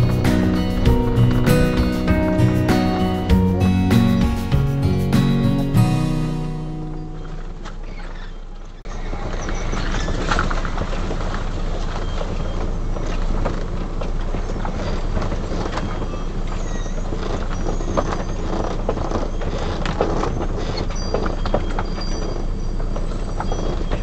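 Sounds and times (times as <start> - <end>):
engine and road noise: 0.0 - 24.0.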